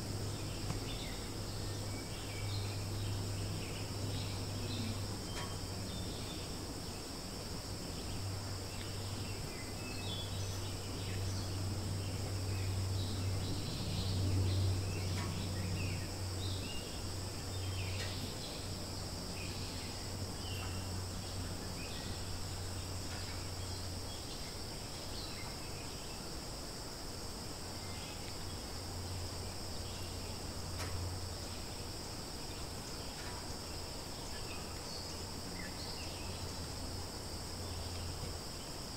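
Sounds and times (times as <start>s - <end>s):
insect chirps: 0.0s - 38.9s
insect chorus: 0.0s - 38.9s.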